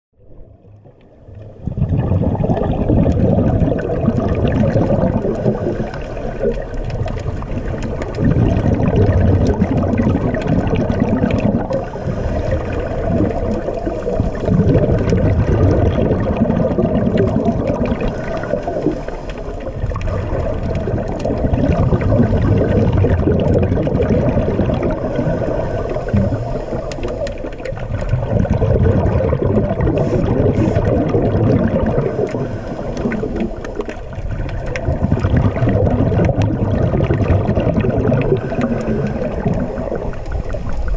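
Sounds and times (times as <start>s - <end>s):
underwater bubbles rushing: 0.2s - 40.9s.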